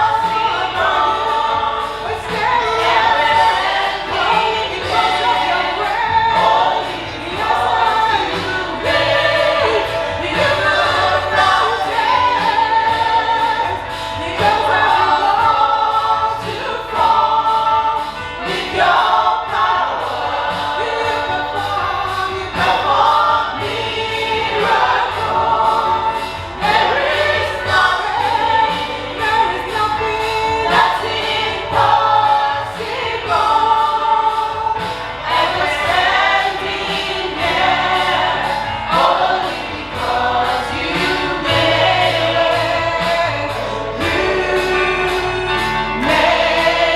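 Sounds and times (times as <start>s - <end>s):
gospel choir singing: 0.0s - 46.9s
instrumental backing: 0.0s - 46.9s
steady bass line: 0.0s - 46.9s.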